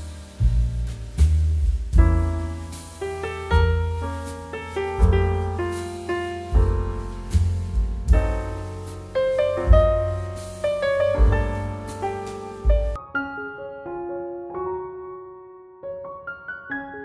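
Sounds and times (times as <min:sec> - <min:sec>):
deep bass piano notes: 0:00.0 - 0:14.2
piano music: 0:00.0 - 0:17.0.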